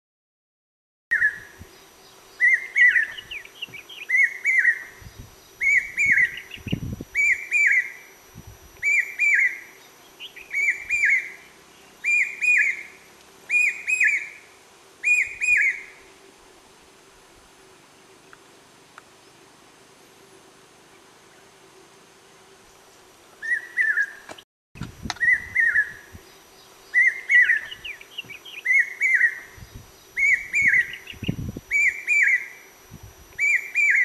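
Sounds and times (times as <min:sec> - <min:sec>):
faint steady hum: 0:01.1 - 0:34.0.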